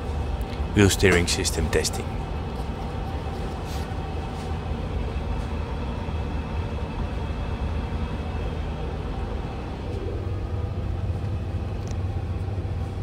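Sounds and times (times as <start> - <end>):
aircraft systems low hum: 0.0 - 13.0.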